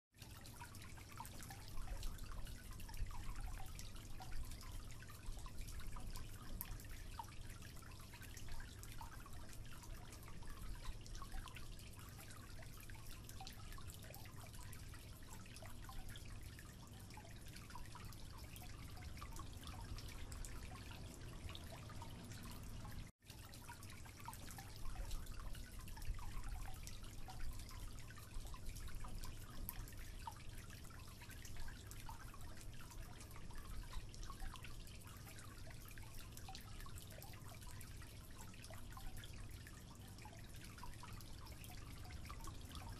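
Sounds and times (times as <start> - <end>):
water dripping into a sink: 0.2 - 42.9.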